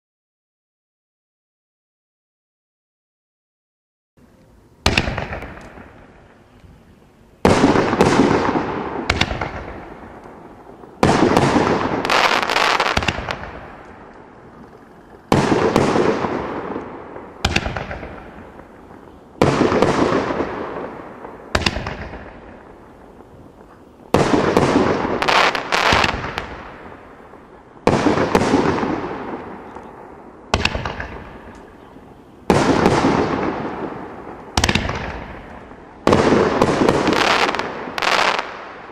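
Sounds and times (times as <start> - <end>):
sharp firework cracks: 4.8 - 6.4, 7.4 - 38.9.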